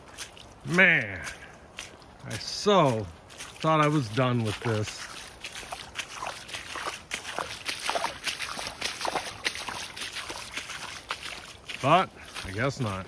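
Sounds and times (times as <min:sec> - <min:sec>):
feet sloshing through water: 0:00.0 - 0:13.0.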